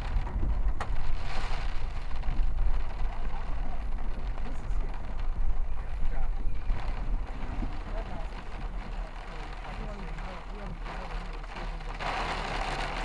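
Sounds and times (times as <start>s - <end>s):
road and engine noise in vehicle: 0.0s - 13.0s.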